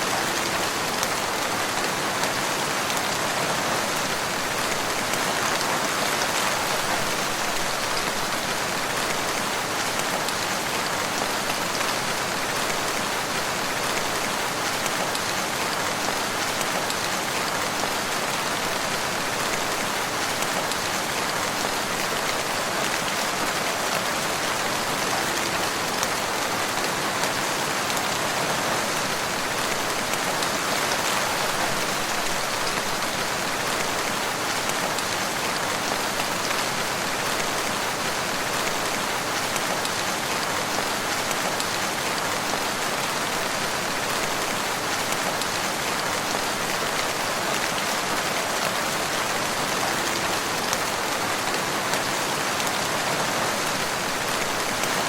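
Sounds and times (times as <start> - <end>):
rain falling on a wood: 0.0 - 55.0.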